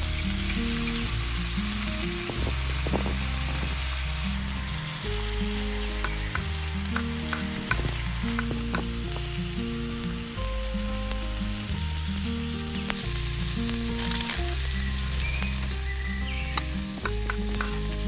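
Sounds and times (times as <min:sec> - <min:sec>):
background music with bass: 0:00.0 - 0:18.0
oil sizzling in pan: 0:00.0 - 0:18.0.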